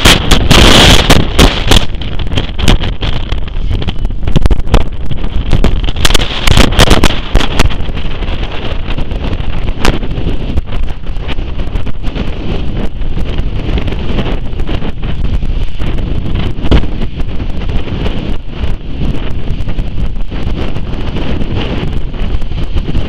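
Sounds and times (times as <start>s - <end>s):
storm wind buffeting microphone: 0.0s - 23.0s.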